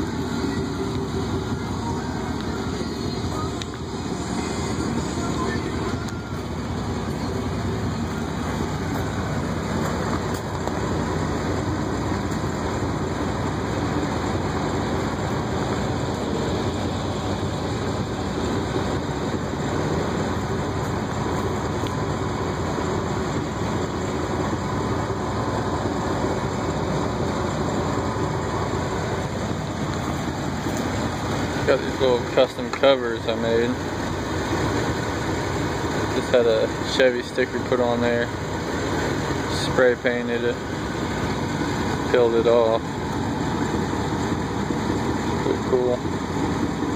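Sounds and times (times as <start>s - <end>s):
constant rushing noise: 0.0s - 46.9s
truck engine idling: 0.0s - 46.9s.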